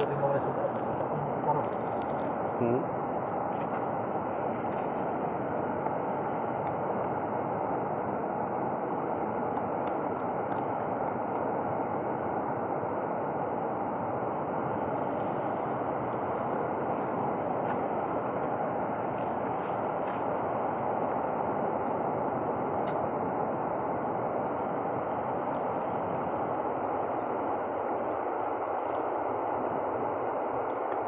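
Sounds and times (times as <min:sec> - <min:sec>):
steady rushing noise: 0:00.0 - 0:31.0.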